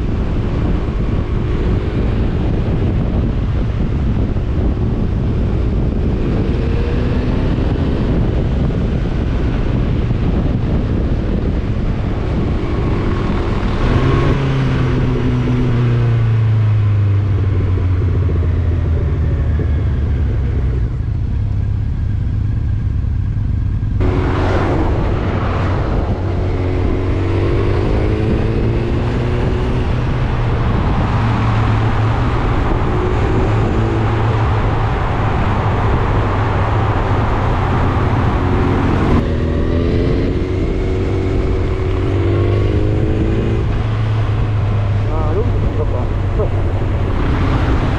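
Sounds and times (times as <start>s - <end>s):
wind rushing: 0.0s - 20.2s, 23.9s - 47.9s
motorcycle engine running: 0.0s - 47.9s.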